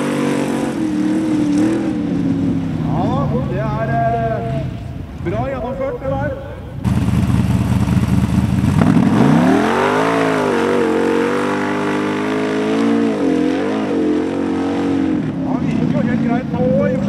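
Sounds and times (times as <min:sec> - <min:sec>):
buggy engine revving: 0:00.0 - 0:05.0, 0:06.7 - 0:17.0.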